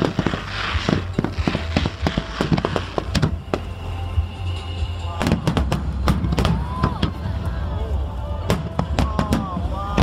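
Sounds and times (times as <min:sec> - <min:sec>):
fireworks bangs and crackles: 0:00.0 - 0:10.0
music from loudspeakers: 0:00.0 - 0:10.0.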